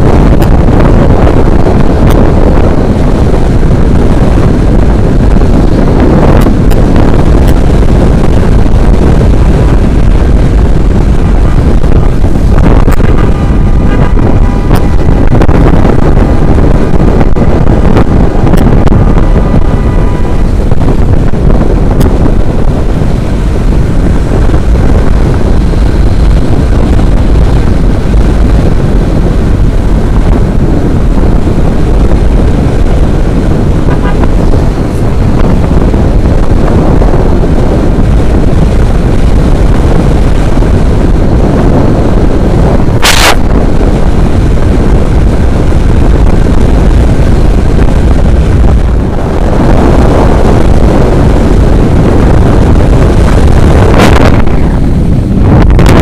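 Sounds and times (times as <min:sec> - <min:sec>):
motorcycle riding: 0:00.0 - 0:56.0
wind buffeting microphone: 0:00.0 - 0:56.0.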